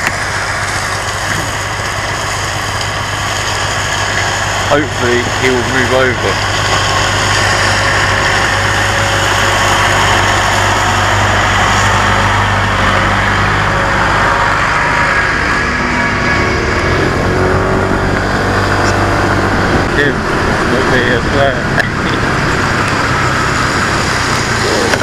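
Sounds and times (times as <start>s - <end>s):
small motorcycle engine running: 0.0s - 25.0s
wind and road noise: 0.0s - 25.0s.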